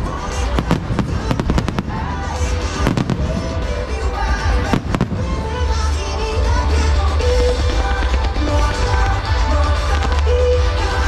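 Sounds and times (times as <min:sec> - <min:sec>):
fireworks bursting: 0:00.0 - 0:11.0
music playing: 0:00.0 - 0:11.0.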